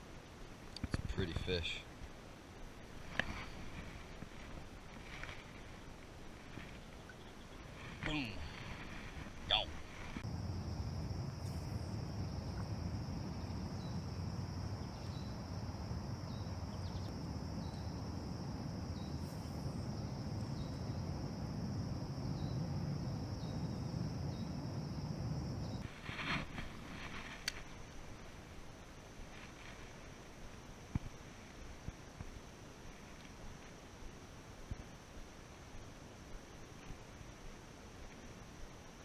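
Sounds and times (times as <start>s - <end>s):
insects droning: 2.7s - 39.0s.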